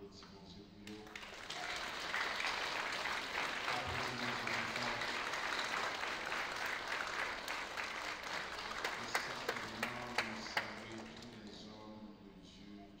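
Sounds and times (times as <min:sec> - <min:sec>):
crowd applauding: 0:00.9 - 0:11.6.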